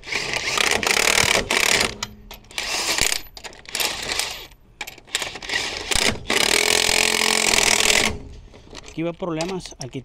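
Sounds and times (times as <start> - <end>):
small metal parts clinking: 0.4 - 10.0.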